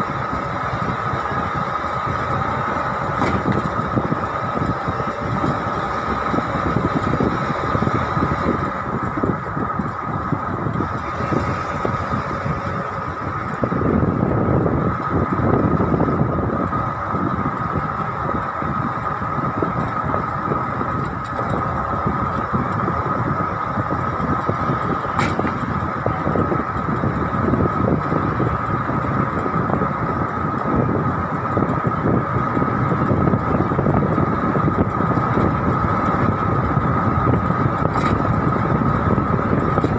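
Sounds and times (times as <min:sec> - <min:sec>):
steady whine: 0:00.0 - 0:39.9
vehicle engine and tyre noise: 0:00.0 - 0:39.9.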